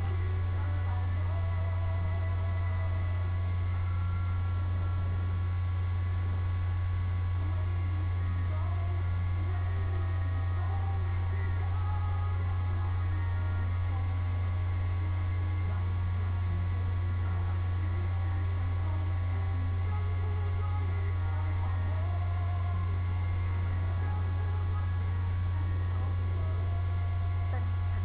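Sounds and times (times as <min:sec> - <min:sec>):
faint high-pitched tones: 0:00.0 - 0:28.0
steady low hum: 0:00.0 - 0:28.0.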